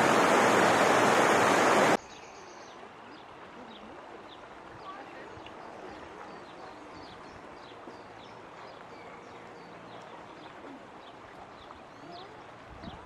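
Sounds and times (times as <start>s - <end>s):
stream flowing: 0.0s - 13.0s
small birds chirping: 1.8s - 13.0s.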